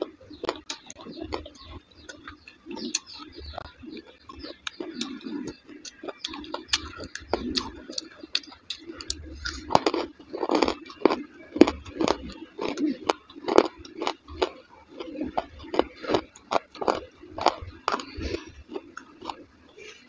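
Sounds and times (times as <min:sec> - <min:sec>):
wet chewing with lip smacks: 0:00.0 - 0:19.5.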